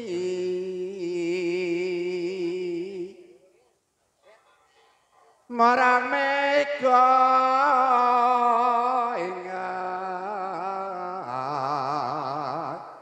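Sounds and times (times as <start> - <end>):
man singing unaccompanied: 0.0 - 3.4, 5.4 - 13.0.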